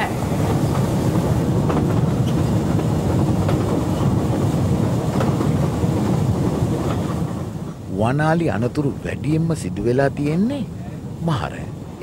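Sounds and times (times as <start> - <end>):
locomotive engine and wheels rumble: 0.0 - 12.0.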